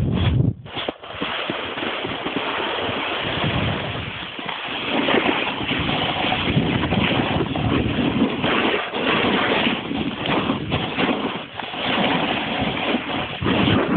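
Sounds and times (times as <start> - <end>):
snowboard scraping over snow: 0.0 - 13.9
wind on microphone: 0.0 - 13.9.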